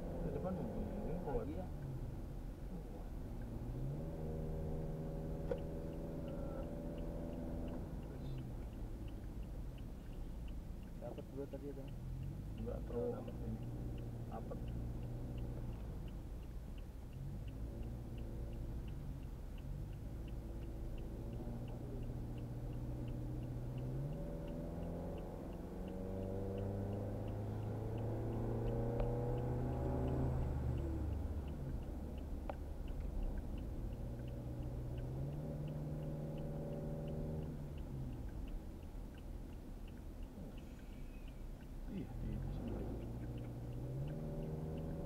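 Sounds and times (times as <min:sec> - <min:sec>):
car engine: 0:00.0 - 0:45.0
faint regular ticking: 0:00.0 - 0:45.0
road rumble: 0:00.0 - 0:45.0.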